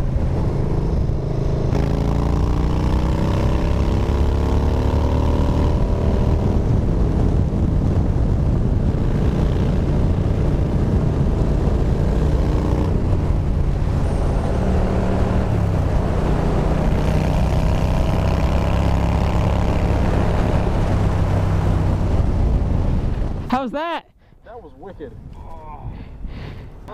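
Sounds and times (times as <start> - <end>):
motorcycle engine while riding: 0.0 - 23.5.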